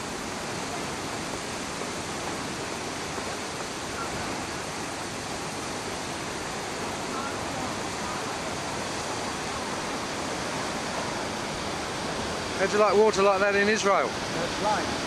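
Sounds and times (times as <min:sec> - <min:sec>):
fast-flowing water rushing: 0:00.0 - 0:15.0.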